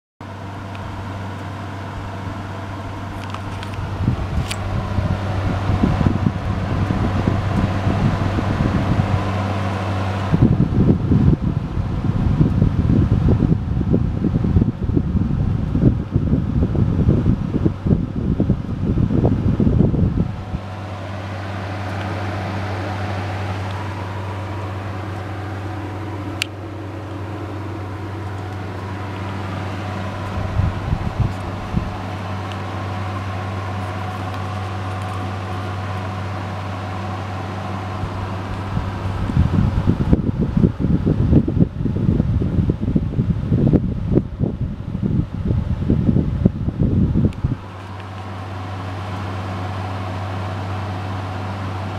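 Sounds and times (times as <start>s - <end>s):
heater blower fan rushing: 0.2s - 51.9s
low electrical hum: 0.2s - 51.9s
low rumbling: 0.2s - 51.9s.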